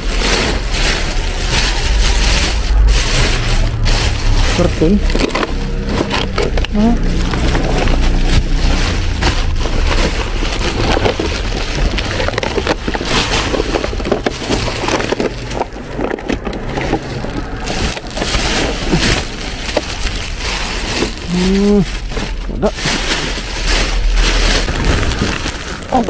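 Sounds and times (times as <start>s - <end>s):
bin bags rustling and crackling: 0.0s - 26.0s
low rumble: 0.0s - 26.0s.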